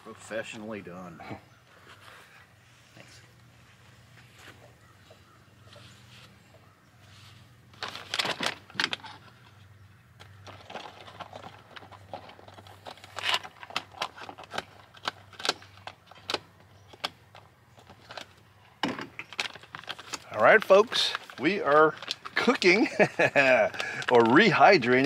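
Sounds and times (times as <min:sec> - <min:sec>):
objects rustling and clicking: 0:04.1 - 0:25.0.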